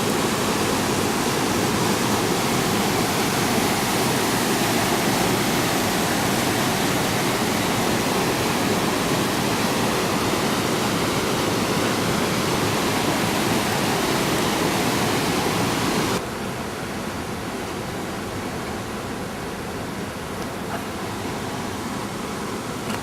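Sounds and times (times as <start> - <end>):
fast-flowing water rushing: 0.0 - 23.0.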